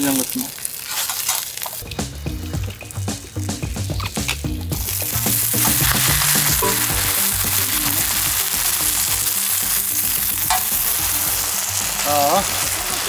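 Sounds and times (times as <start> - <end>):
pancake sizzling on a griddle: 0.0 - 13.0.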